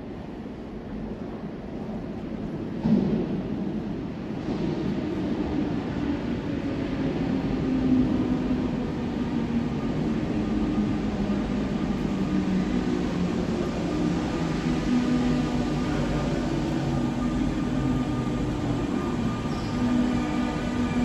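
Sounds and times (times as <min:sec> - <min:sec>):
electric train rumbling in tunnel: 0:00.0 - 0:21.0.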